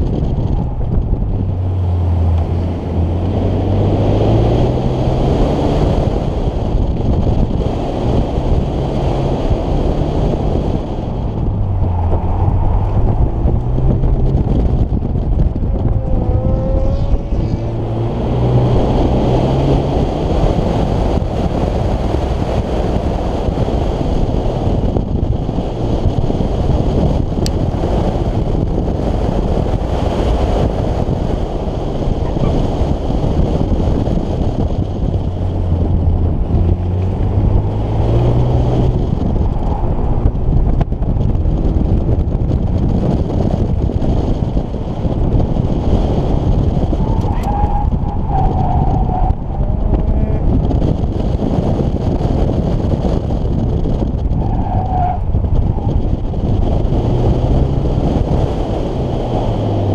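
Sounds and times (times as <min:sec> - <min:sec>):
car engine accelerating: 0:00.0 - 0:59.9
wind rush on microphone: 0:00.0 - 0:59.9.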